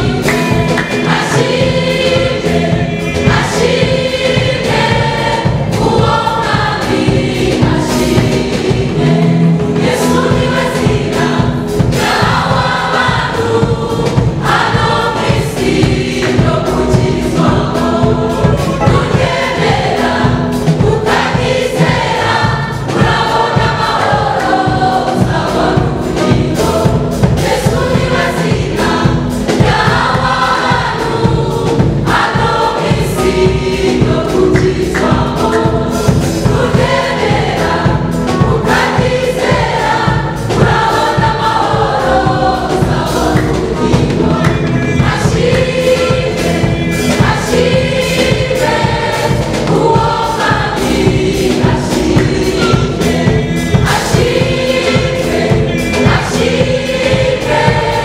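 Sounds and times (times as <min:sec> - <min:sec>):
choir singing gospel in harmony: 0:00.0 - 0:58.0
steady beat: 0:00.0 - 0:58.0.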